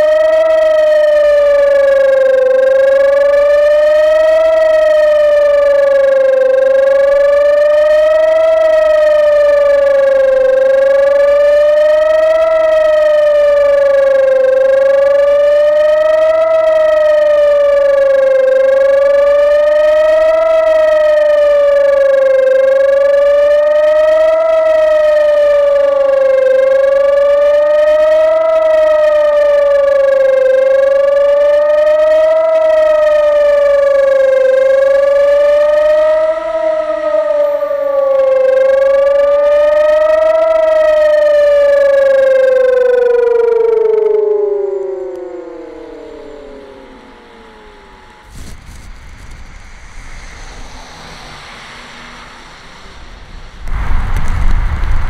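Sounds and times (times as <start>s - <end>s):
civil defense siren wailing: 0.0s - 55.0s.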